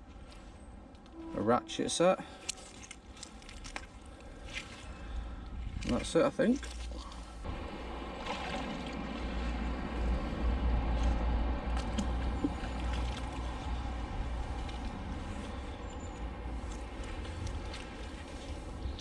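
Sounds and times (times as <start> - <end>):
unsteady low rumble: 2.8 - 19.0.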